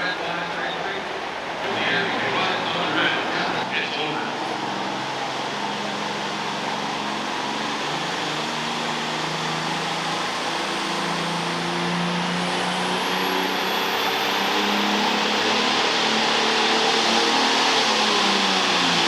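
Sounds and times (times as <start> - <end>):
diesel engine running hard: 0.0 - 19.0
high whine rising in pitch: 0.0 - 19.0.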